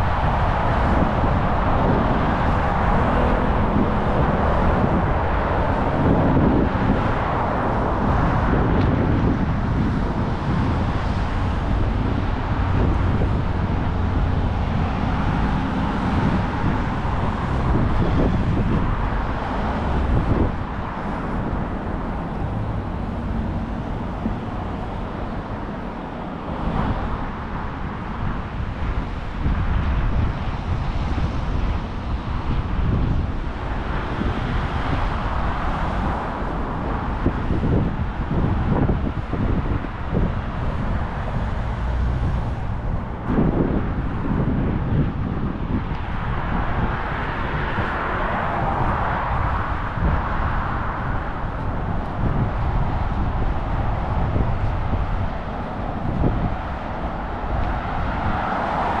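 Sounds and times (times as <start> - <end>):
road traffic passing: 0.0 - 59.0
wind rumble on microphone: 0.0 - 59.0.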